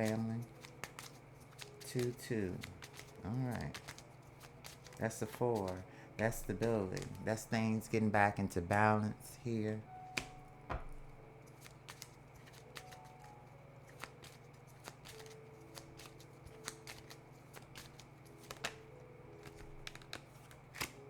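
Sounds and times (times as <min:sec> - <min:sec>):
cards clicking and tapping: 0:00.0 - 0:21.0
faint steady hum: 0:00.0 - 0:21.0.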